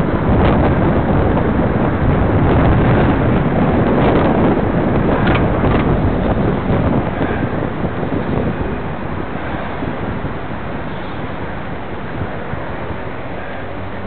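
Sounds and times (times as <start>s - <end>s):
motor traffic: 0.0s - 14.0s
wind buffeting microphone: 0.0s - 14.0s.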